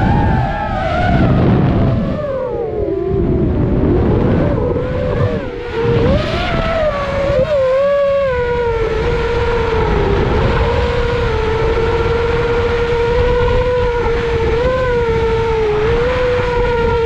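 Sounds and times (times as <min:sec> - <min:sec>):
quadcopter motors whining: 0:00.0 - 0:17.0
wind rumble: 0:00.0 - 0:17.0.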